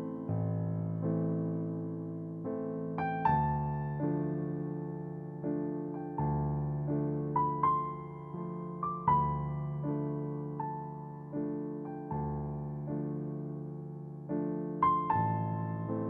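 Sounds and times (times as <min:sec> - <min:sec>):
slow soft piano music: 0:00.0 - 0:16.0.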